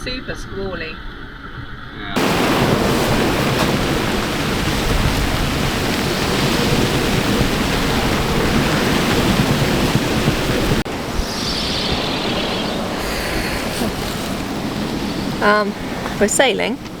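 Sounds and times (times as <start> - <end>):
wind and water rushing: 2.2 - 17.0
wind blowing across microphone: 2.2 - 17.0.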